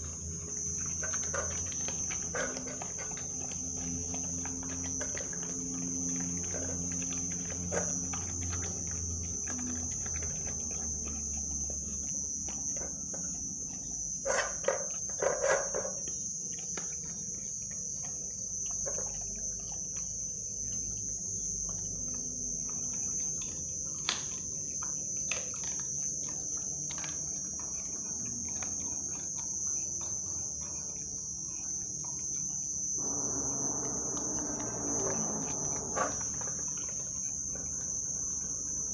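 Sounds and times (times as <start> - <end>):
cricket trill: 0.0 - 38.9
puppy chewing meat and bone: 0.0 - 38.9.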